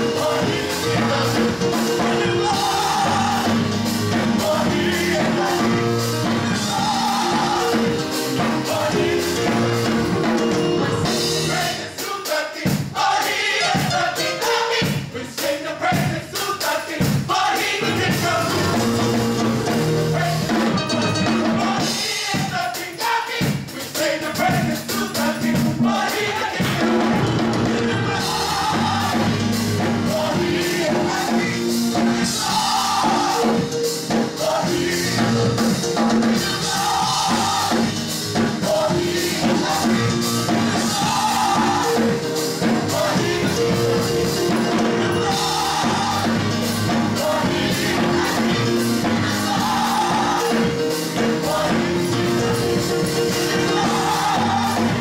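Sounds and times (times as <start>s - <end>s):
band with drums: 0.0s - 55.0s
gospel choir singing: 0.0s - 55.0s.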